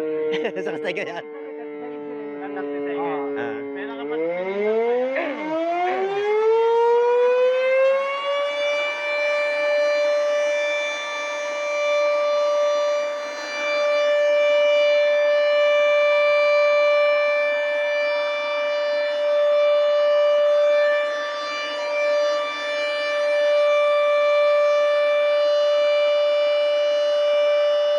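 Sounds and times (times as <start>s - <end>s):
air raid siren wailing: 0.0s - 27.9s.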